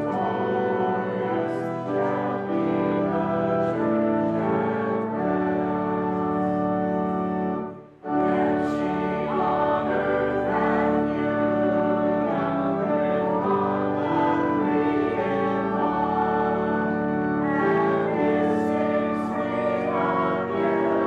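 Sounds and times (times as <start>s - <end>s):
organ chords: 0.0s - 21.0s
voices singing a hymn: 0.0s - 21.0s.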